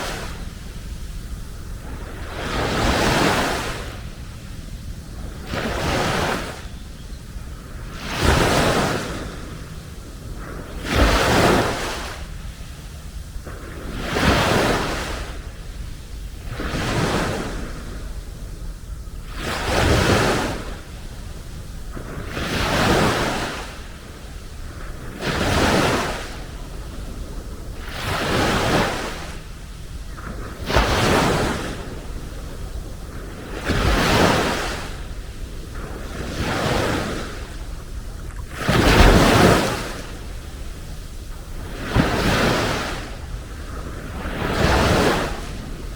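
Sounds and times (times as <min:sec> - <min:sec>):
sea waves washing onto beach: 0:00.0 - 0:45.9.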